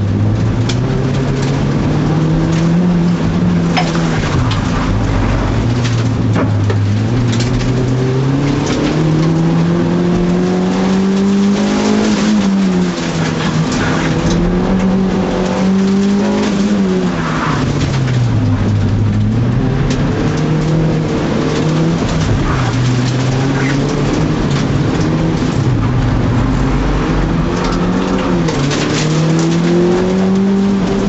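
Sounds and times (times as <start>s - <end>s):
car engine revving: 0.0s - 31.0s
road and tyre noise: 0.0s - 31.0s.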